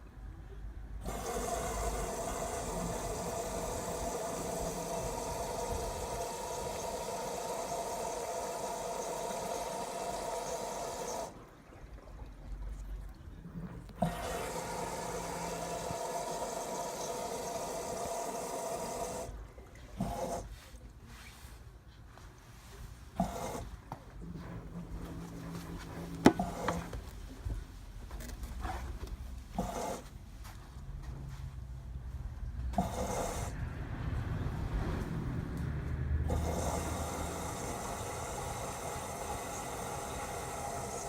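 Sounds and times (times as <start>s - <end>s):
washing machine water inflow: 1.0s - 20.6s, 22.5s - 27.9s, 32.6s - 41.0s.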